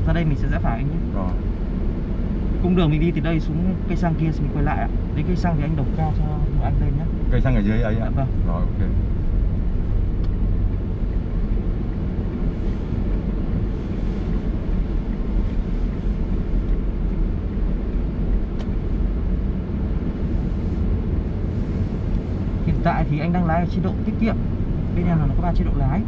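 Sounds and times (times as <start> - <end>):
tyre and road rumble in car: 0.0 - 26.0.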